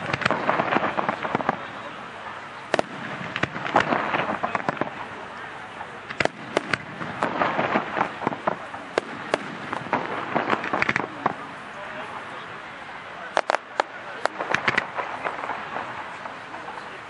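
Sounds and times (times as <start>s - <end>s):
fireworks bangs and pops: 0.0s - 12.4s, 13.2s - 17.0s.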